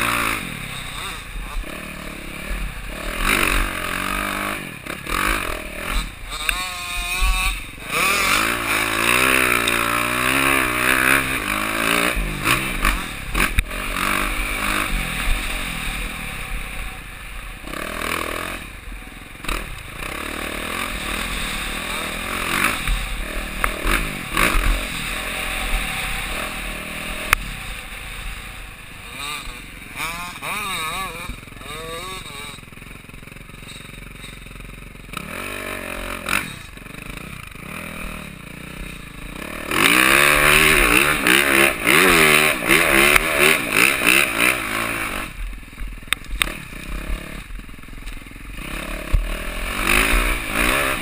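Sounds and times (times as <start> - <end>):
constant rushing noise: 0.0 - 51.0
dirt bike engine revving: 0.0 - 51.0.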